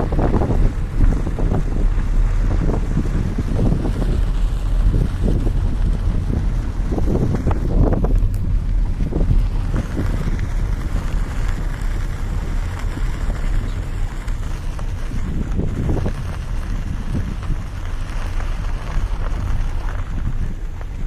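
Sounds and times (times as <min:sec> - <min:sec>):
vehicle rumbling along road: 0:00.0 - 0:21.0
wind buffeting microphone: 0:00.0 - 0:21.0.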